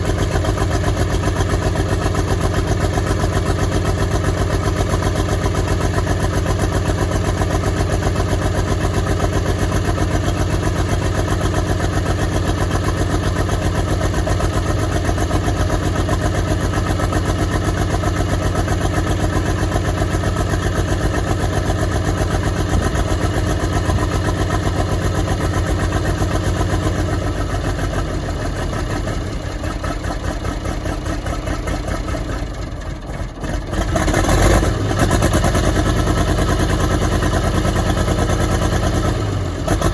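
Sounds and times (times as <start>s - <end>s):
diesel engine misfiring: 0.0s - 39.9s.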